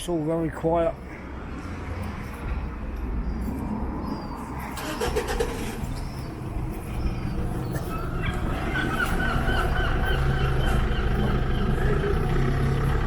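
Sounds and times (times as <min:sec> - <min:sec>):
vehicle passing with low rumble: 0:00.9 - 0:13.0.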